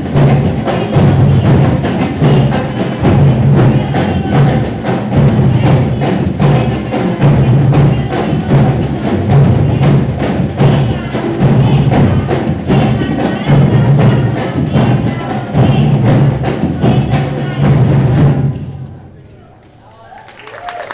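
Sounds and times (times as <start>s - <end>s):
people singing: 0.0s - 19.2s.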